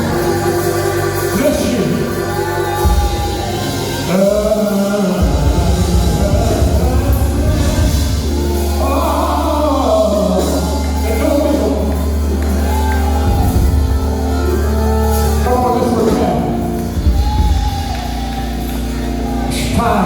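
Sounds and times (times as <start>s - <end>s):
bass and keyboard notes: 0.0s - 20.0s
person singing gospel: 0.0s - 20.0s.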